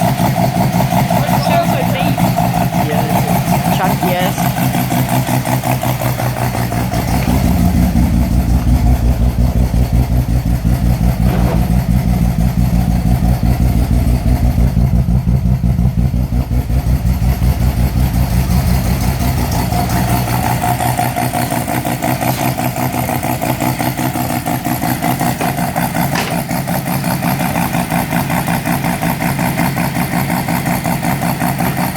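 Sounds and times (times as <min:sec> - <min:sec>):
rotary engine idling: 0:00.0 - 0:31.9.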